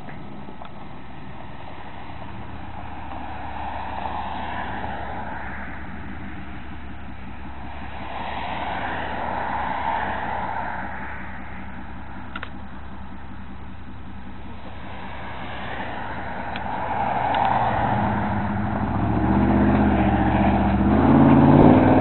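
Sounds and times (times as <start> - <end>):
truck exhaust rumbling: 0.0 - 22.0.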